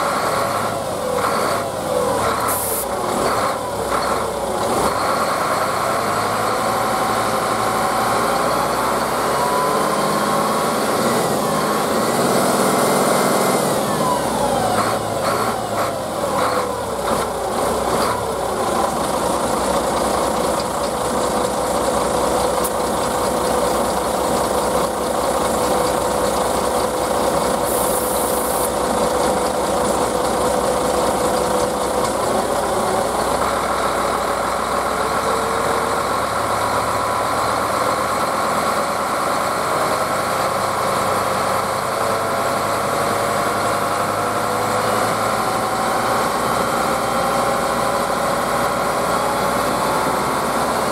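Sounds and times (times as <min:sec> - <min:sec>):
bus engine idling: 0:00.0 - 0:09.5, 0:13.6 - 0:50.9.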